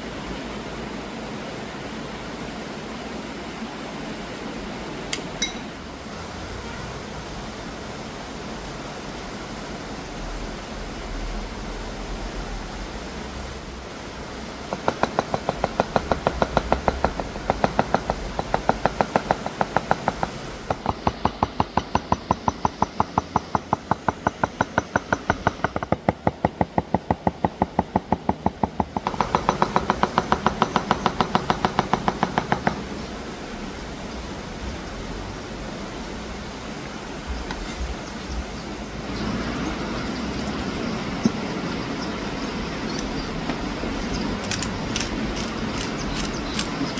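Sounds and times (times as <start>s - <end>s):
outdoor background noise: 0.0s - 46.9s.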